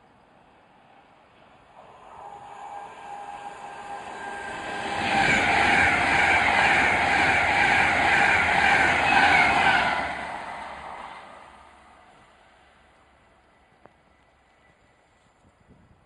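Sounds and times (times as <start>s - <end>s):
electric train passing at speed: 0.0s - 16.0s.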